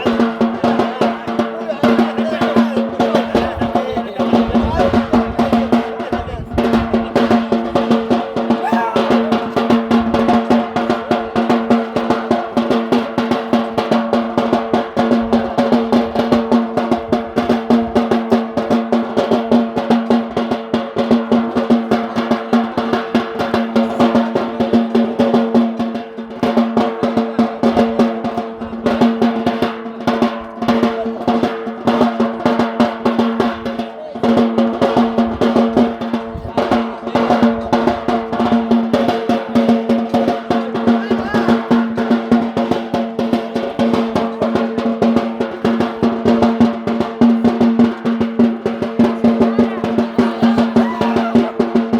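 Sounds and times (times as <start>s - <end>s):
drums in fast rhythm: 0.0s - 51.9s.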